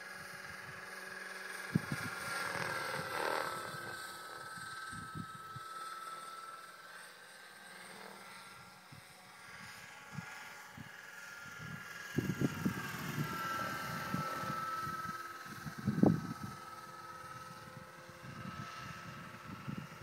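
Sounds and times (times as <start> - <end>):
model helicopter whine: 0.0 - 20.0.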